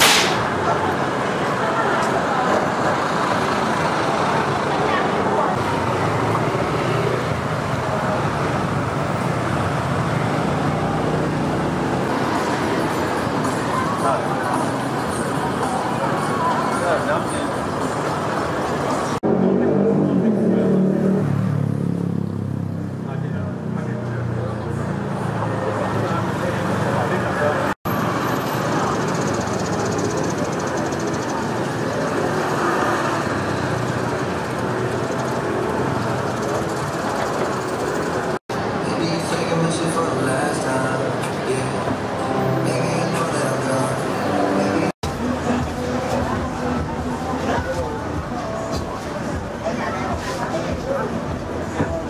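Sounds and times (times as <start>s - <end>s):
road traffic: 0.0s - 52.0s.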